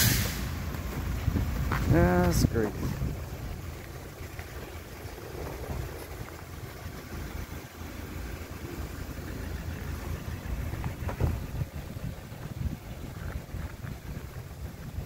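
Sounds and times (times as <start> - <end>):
car engines idling and running: 0.0 - 15.0.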